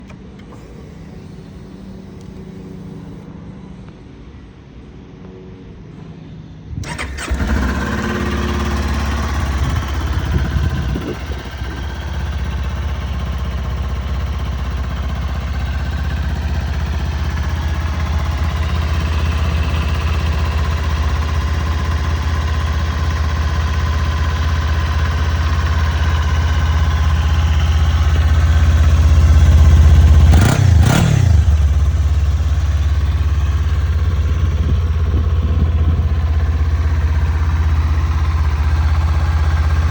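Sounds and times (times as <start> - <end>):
motorcycle engine idling: 6.8 - 39.9.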